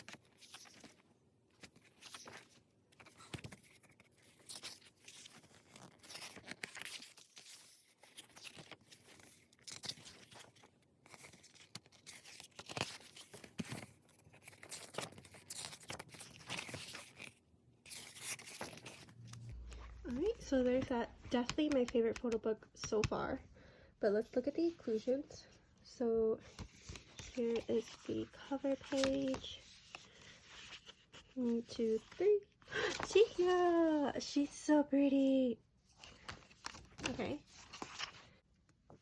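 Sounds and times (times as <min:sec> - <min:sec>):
photo book pages turning: 0:00.0 - 0:23.2, 0:26.4 - 0:33.8, 0:35.8 - 0:39.0.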